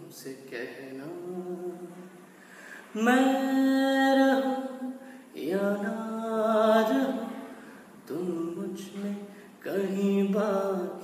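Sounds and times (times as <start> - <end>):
man singing unaccompanied: 0.0 - 2.2, 2.8 - 11.0.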